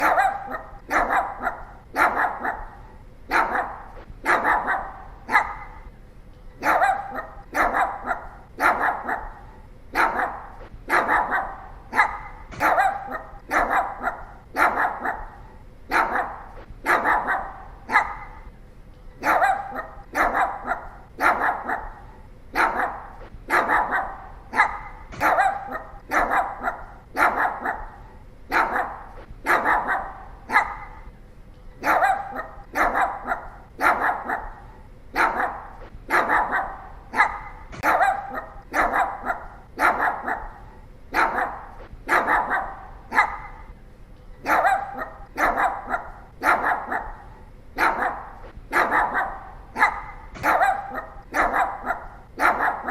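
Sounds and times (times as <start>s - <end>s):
small dog yapping: 0.0s - 5.9s, 6.6s - 9.4s, 10.0s - 18.5s, 19.2s - 22.0s, 22.6s - 31.1s, 31.8s - 34.6s, 35.2s - 43.7s, 44.4s - 47.2s, 47.8s - 52.9s.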